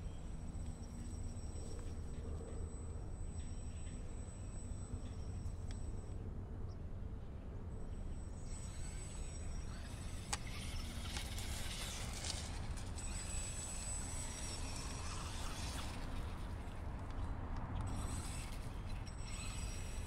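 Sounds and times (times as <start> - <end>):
high electric motor whine: 0.0 - 20.0.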